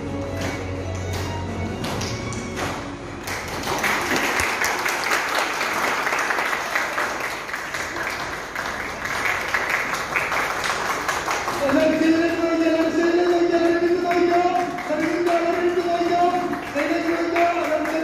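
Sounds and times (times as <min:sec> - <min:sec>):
audience applause: 0:02.7 - 0:18.0.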